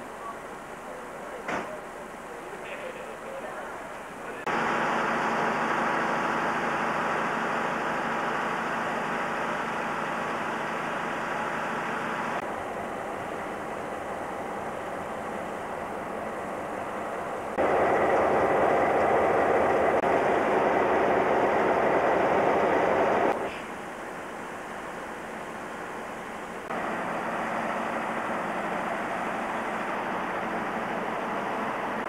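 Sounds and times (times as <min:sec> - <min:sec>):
diesel locomotive engines rumbling: 0:00.0 - 0:32.0.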